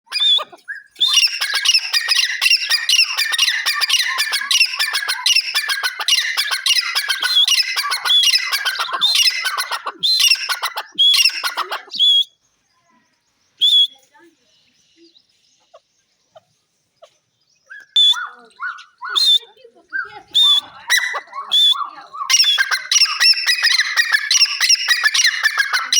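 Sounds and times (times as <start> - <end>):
francolins calling harshly: 0.1 - 12.4, 15.6 - 25.9.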